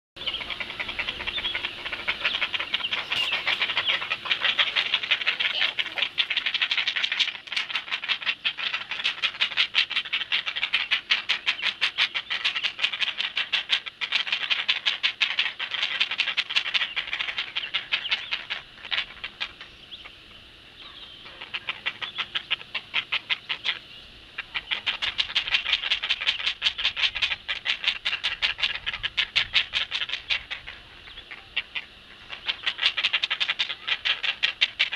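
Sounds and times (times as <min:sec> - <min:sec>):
heron nestlings clacking calls: 0:00.3 - 0:20.0, 0:20.9 - 0:23.8, 0:24.4 - 0:34.9.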